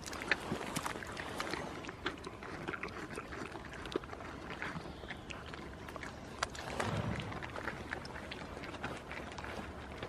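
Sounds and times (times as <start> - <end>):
goat chewing: 0.0 - 10.0.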